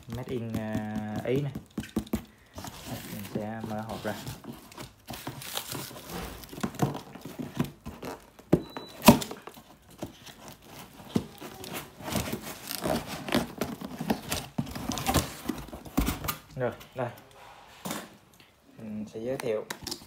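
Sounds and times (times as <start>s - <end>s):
cardboard flaps rustling: 0.0s - 16.8s
plastic wrapping crinkling: 0.0s - 17.1s.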